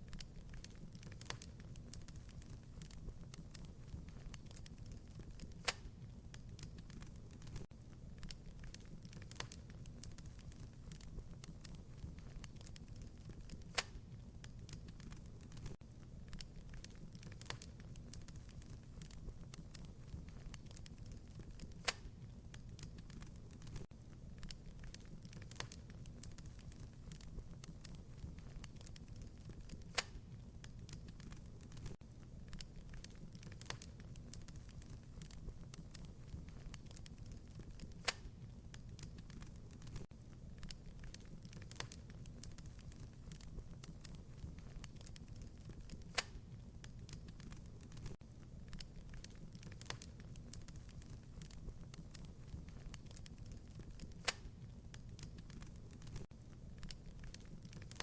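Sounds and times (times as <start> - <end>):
low rumble of burning: 0.0 - 58.0
wood fire crackling and popping: 0.0 - 58.0.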